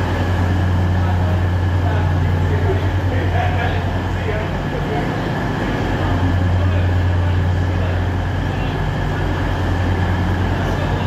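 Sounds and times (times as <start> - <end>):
diesel train engine idling: 0.0 - 11.0.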